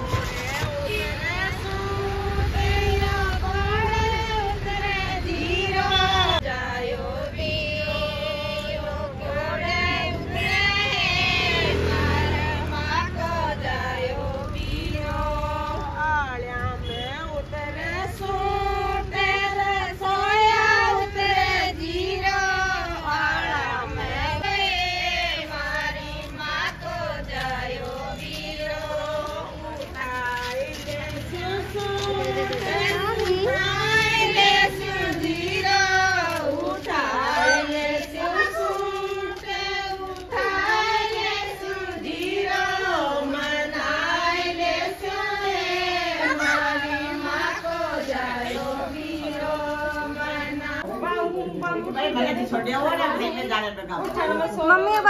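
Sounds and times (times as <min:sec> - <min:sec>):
women singing folk song: 0:00.0 - 0:55.0.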